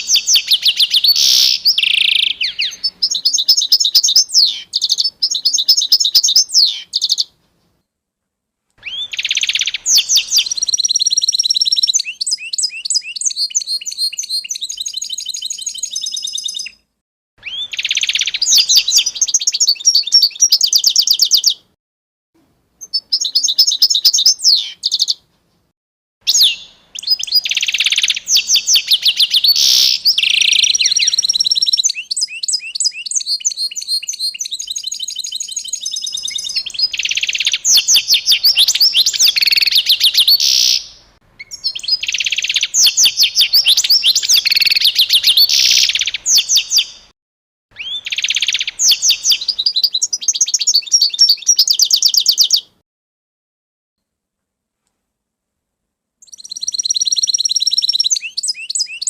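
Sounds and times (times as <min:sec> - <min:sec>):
small birds chirping: 0:00.0 - 0:07.9, 0:08.8 - 0:21.8, 0:22.8 - 0:25.3, 0:26.3 - 0:47.1, 0:47.7 - 0:52.8, 0:56.2 - 0:59.0.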